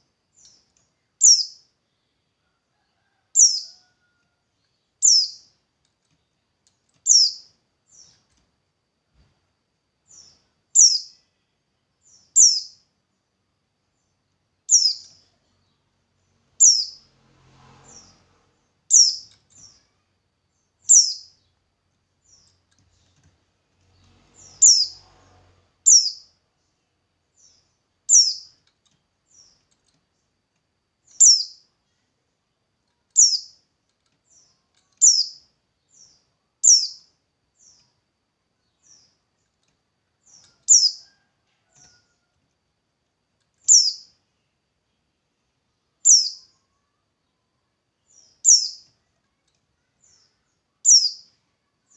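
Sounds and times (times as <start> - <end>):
bird chirping: 0.0 - 2.3, 3.0 - 8.4, 10.0 - 13.2, 13.9 - 30.4, 31.0 - 38.0, 38.6 - 42.2, 43.6 - 51.9.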